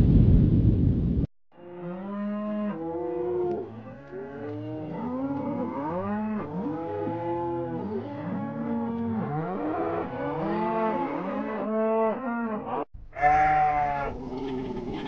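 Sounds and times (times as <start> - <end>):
cattle mooing: 1.6 - 15.0.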